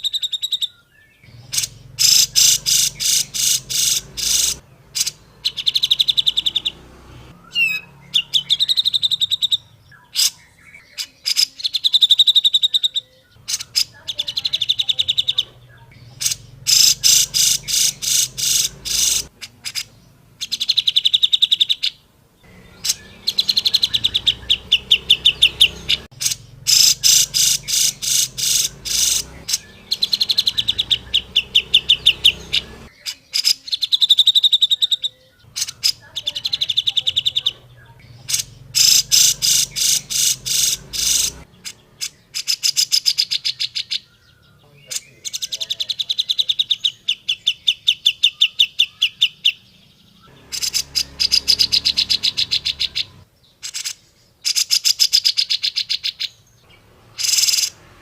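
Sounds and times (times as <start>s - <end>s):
bird singing chattering notes: 0.0s - 58.0s.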